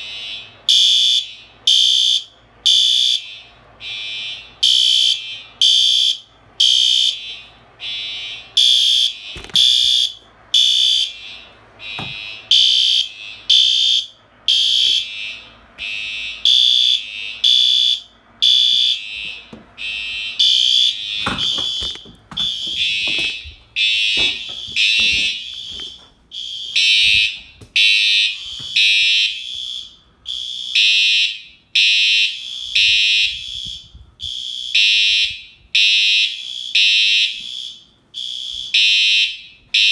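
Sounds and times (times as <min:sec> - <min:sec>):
fire alarm horns pulsing: 0:00.0 - 0:39.9.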